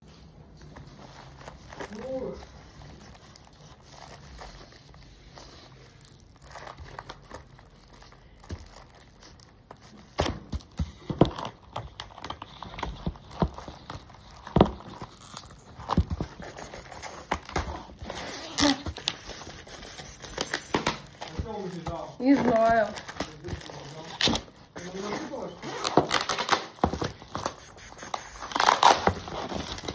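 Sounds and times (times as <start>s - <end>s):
paper crinkling and crackling: 0.3s - 29.9s.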